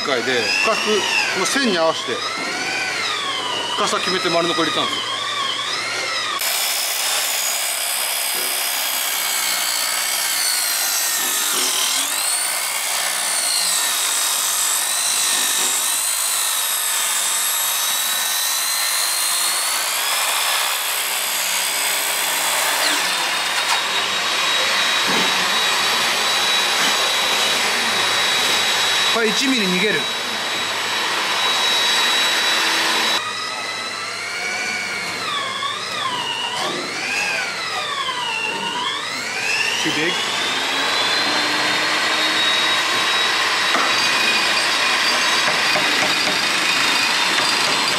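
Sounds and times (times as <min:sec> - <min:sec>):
circular saw cutting wood: 0:00.0 - 0:47.9.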